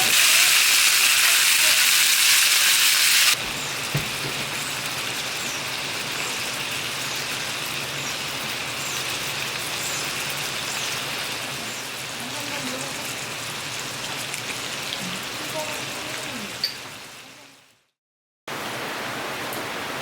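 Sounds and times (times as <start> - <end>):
heavy rain hissing: 0.0 - 17.8
light rain falling on surfaces: 3.3 - 20.0.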